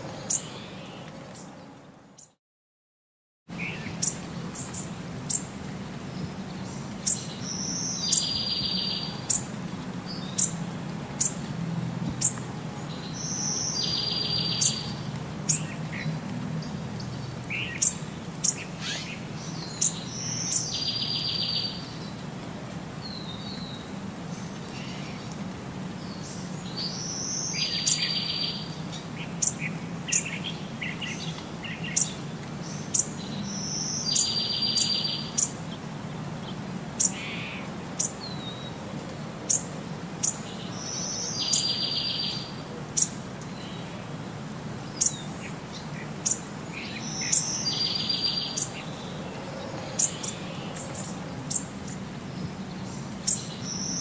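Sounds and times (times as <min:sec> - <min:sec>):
birds chirping: 0:03.5 - 0:11.4, 0:12.0 - 0:22.2, 0:26.0 - 0:38.8, 0:39.5 - 0:54.0.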